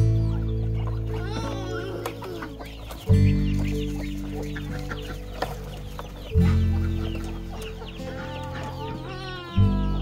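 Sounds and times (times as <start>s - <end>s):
background music deep notes: 0.0s - 10.0s
chickens clucking: 0.0s - 10.0s.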